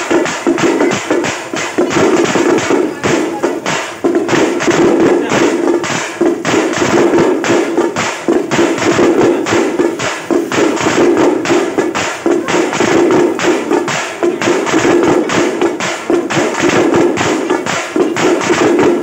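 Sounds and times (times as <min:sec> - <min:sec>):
fast steady percussion: 0:00.0 - 0:19.0.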